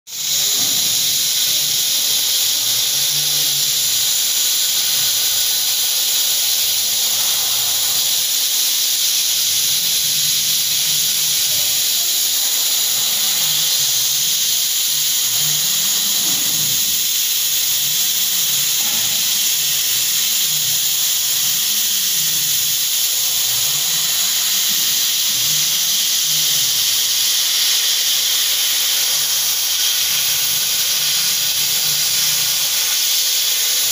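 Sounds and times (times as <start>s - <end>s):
loud hiss of air from nozzle: 0.1s - 33.9s.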